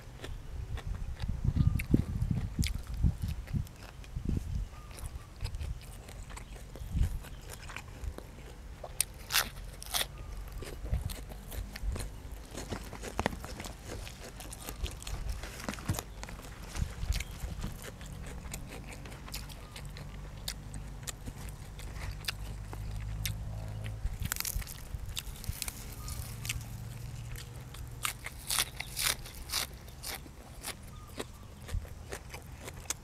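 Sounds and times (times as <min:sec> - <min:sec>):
low steady rumble: 0:00.0 - 0:33.0
person chewing crunchy food: 0:00.0 - 0:33.0.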